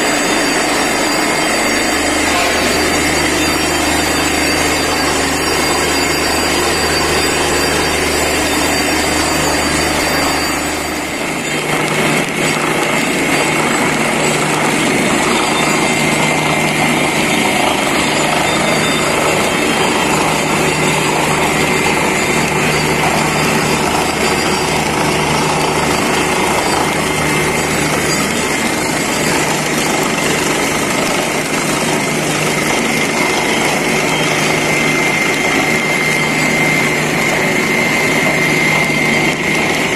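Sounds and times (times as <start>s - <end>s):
drilling rig machine din: 0.0s - 39.9s.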